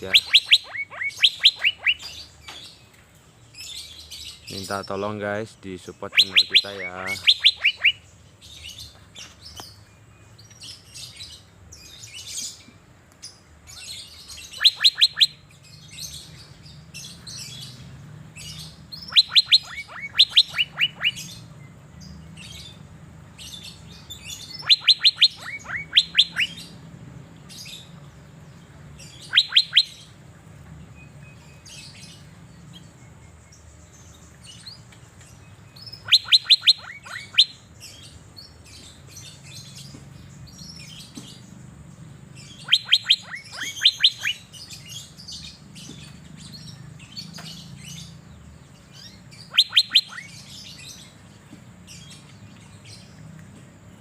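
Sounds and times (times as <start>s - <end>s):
bird song bursts: 0.0s - 54.0s
soft bird chirping: 0.0s - 54.0s.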